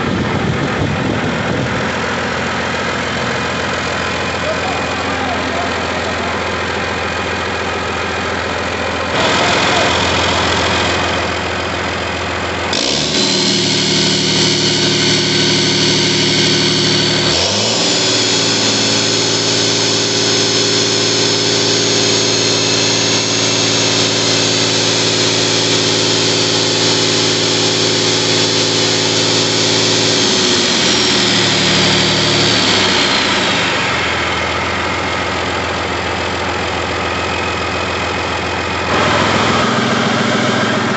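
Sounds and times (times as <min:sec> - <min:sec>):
diesel engine idling and revving: 0:00.0 - 0:40.9
high engine whine: 0:00.0 - 0:40.9.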